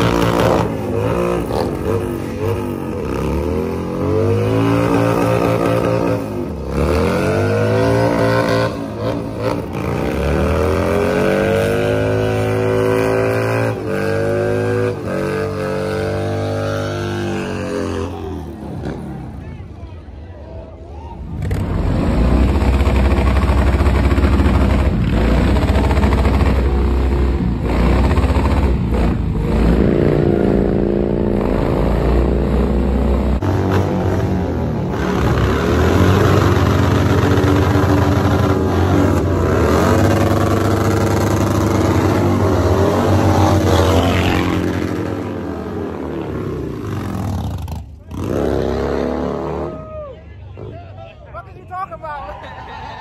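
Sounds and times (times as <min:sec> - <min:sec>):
motorcycle engine revving: 0:00.0 - 0:19.3, 0:21.3 - 0:49.8.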